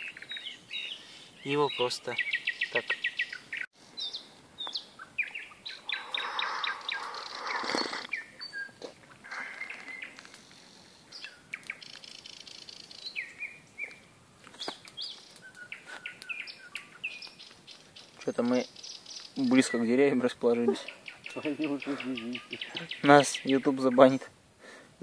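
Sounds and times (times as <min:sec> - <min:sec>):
songbird singing: 0:00.0 - 0:24.8.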